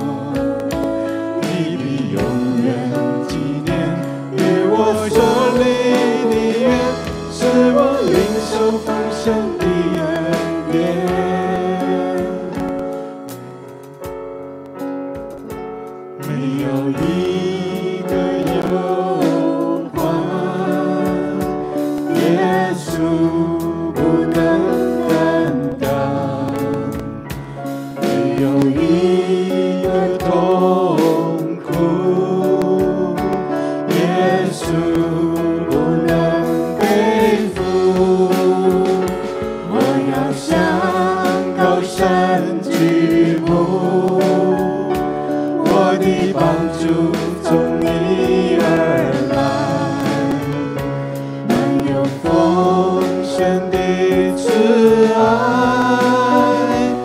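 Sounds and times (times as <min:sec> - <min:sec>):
voices singing worship song: 0:00.0 - 0:14.1, 0:15.2 - 0:57.0
band playing accompaniment: 0:00.0 - 0:57.0.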